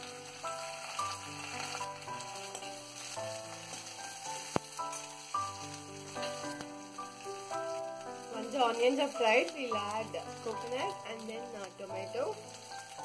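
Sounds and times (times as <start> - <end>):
ladle stirring in a pan: 0.0 - 13.0
oil sizzling: 0.0 - 13.0.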